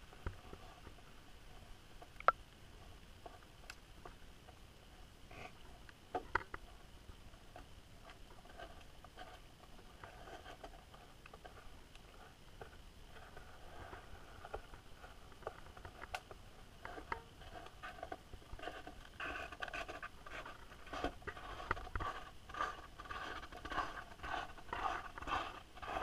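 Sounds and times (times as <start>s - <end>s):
faint steady underwater hiss: 0.0s - 26.0s.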